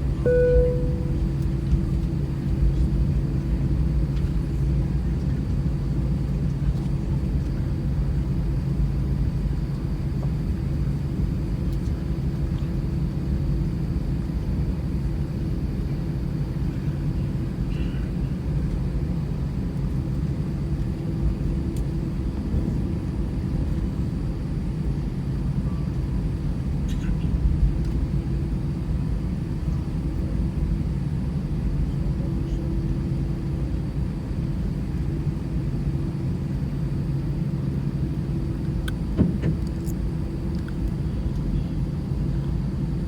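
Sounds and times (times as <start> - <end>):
airliner cabin engine drone: 0.0 - 43.0.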